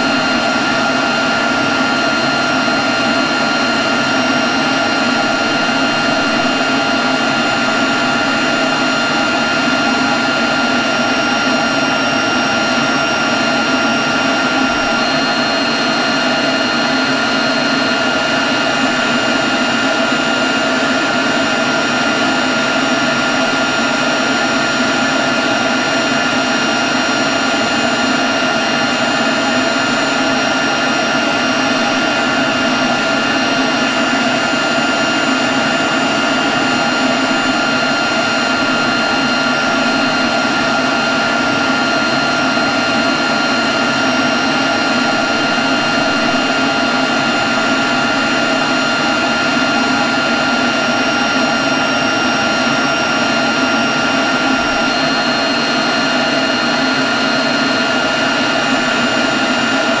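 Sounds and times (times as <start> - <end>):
leaf blower running: 0.0 - 60.0.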